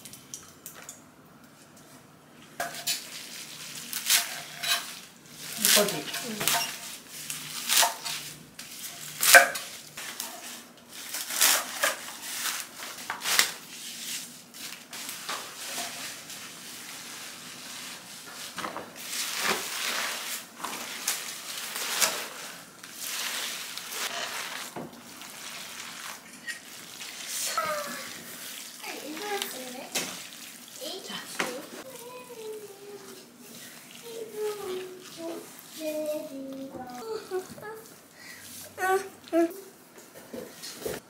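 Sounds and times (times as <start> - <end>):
wet rustling of vegetables: 1.6 - 41.0.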